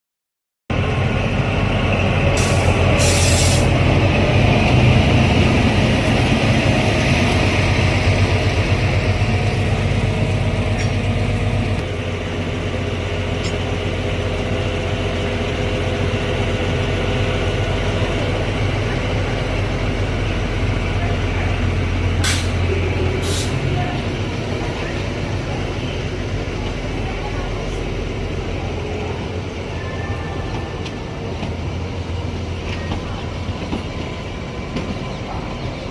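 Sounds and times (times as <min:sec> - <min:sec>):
train locomotive and wheels rumbling: 0:00.7 - 0:35.9.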